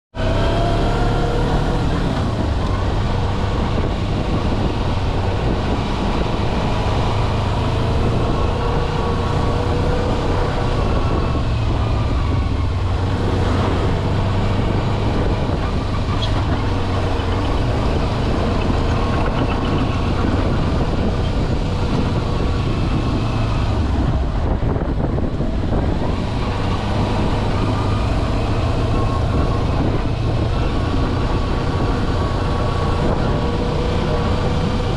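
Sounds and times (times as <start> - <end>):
steady rush of noise: 0.5 - 34.9.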